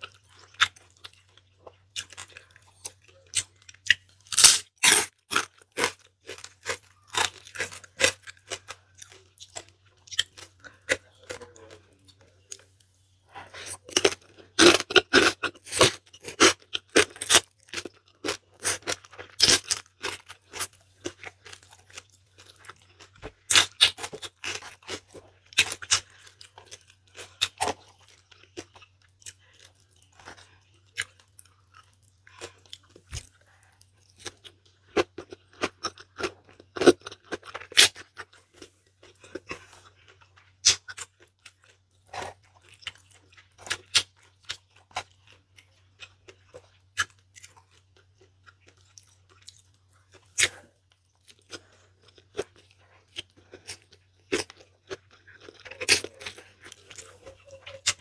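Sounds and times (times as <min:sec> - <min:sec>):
chewing with wet mouth smacks: 0:05.3 - 0:58.0.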